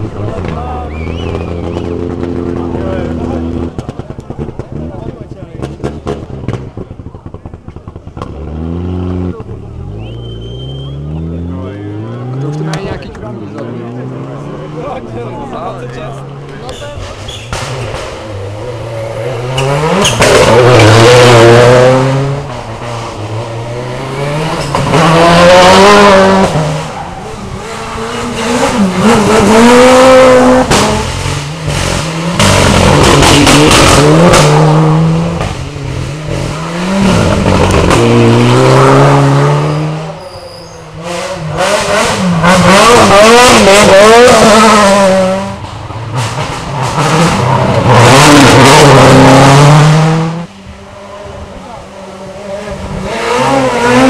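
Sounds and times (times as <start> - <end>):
rally cars passing at speed: 0.0 - 54.0.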